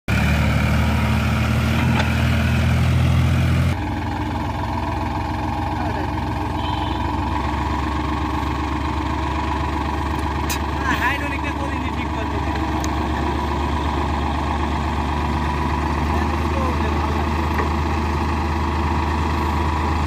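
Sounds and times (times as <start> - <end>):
tractor diesel engine: 0.0 - 20.0.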